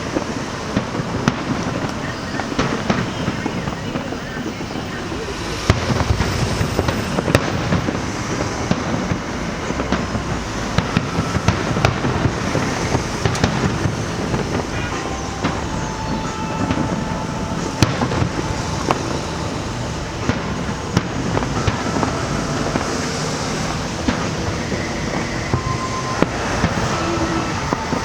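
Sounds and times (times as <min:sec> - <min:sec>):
fireworks bursting: 0:00.0 - 0:28.0
fireworks whistling: 0:00.0 - 0:28.0.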